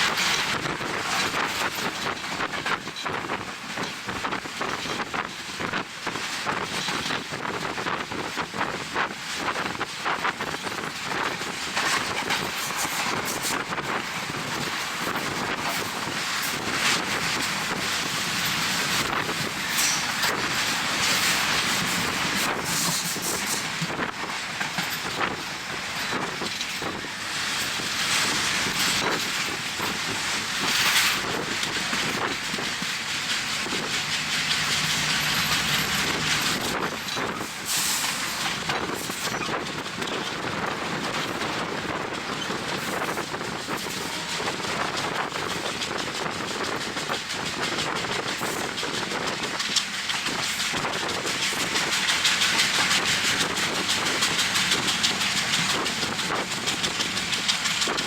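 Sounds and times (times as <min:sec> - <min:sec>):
train wheels clacking on rails: 0:00.0 - 0:58.0
wind rushing over microphone: 0:00.0 - 0:58.0.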